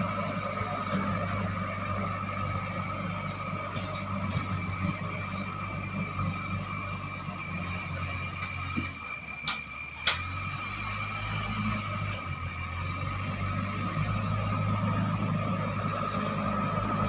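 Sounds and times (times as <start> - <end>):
diesel engine running with whine: 0.0 - 17.0.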